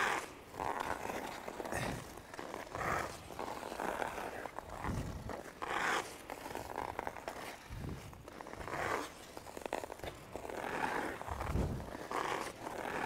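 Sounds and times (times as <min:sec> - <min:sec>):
skate blades scraping ice: 0:00.0 - 0:13.0.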